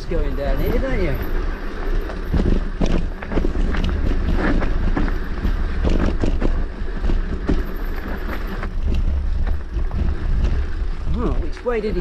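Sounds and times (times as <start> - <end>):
bike rattling and clattering: 0.0 - 12.0
wind rumble on microphone: 0.0 - 12.0.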